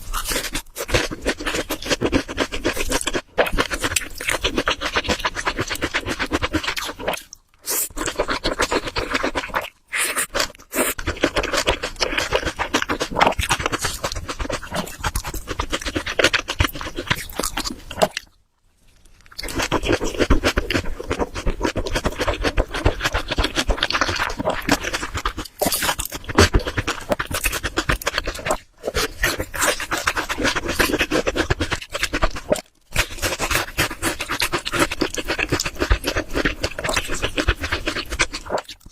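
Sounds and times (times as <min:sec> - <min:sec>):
wet chewing and smacking: 0:00.0 - 0:38.9.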